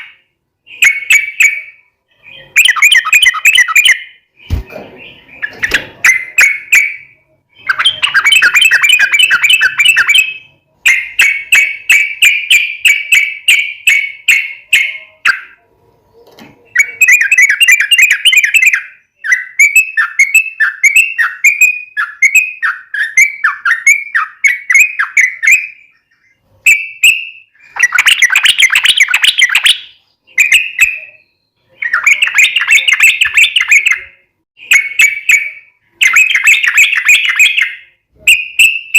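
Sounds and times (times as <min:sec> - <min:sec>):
bird singing chattering phrases: 0:00.0 - 0:38.9.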